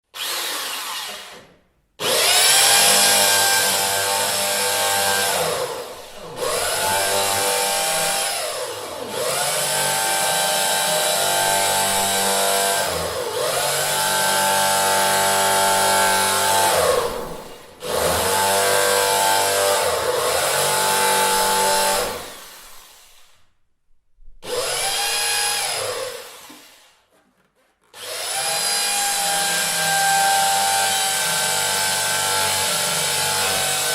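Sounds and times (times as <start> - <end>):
electric drill motor whine: 2.0 - 23.2, 24.4 - 26.9, 28.0 - 33.9.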